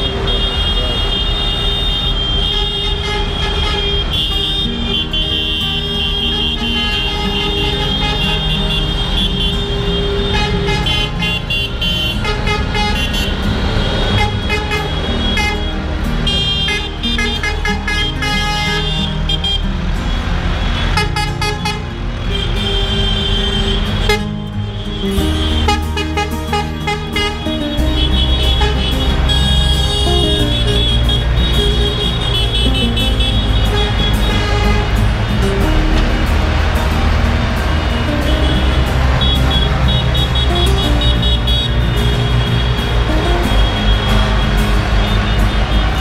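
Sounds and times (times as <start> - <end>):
horns tooting: 0.0 - 46.0
tractor diesel engines: 0.0 - 46.0.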